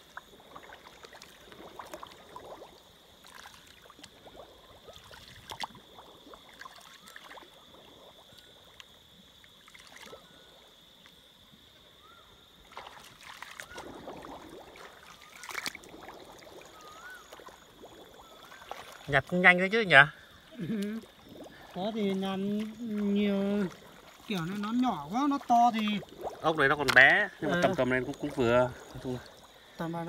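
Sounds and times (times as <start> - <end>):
water sloshing and splashing: 0.0 - 30.0.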